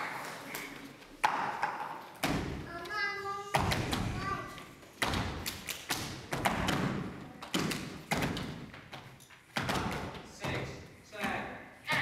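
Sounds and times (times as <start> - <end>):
heavy thumps echoing: 1.2 - 12.0.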